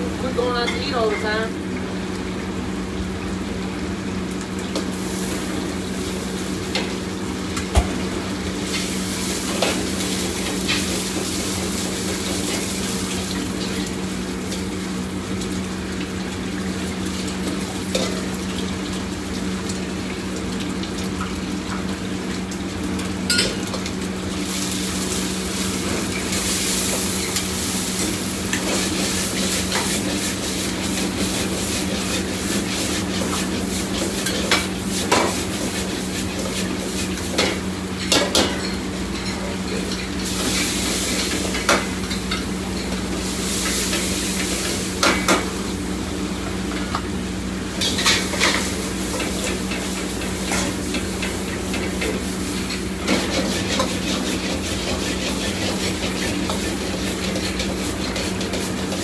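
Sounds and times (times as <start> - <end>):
food sizzling in wok: 4.5 - 59.0.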